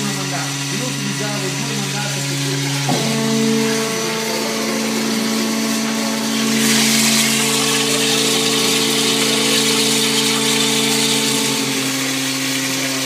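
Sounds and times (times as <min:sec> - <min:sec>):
pump humming: 0:00.0 - 0:13.0.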